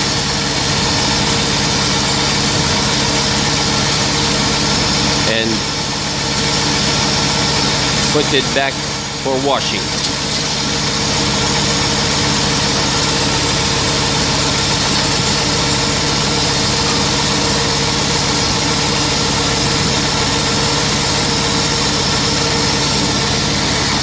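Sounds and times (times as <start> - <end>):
tractor engine running steadily: 0.0 - 24.0.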